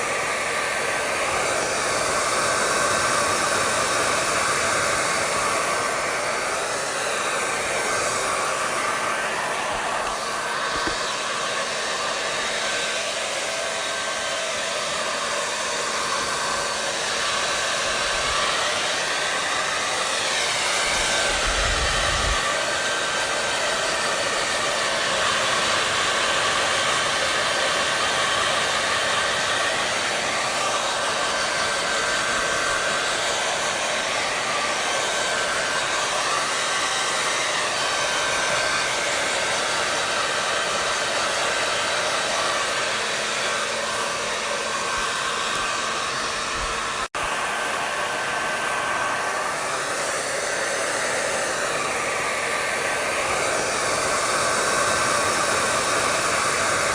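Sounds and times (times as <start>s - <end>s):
hair dryer blowing: 0.0s - 56.9s.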